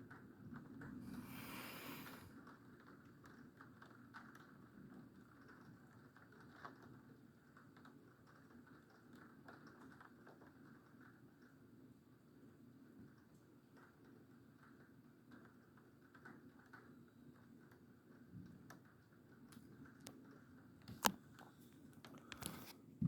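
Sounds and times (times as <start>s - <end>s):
rain dripping: 0.0s - 20.6s.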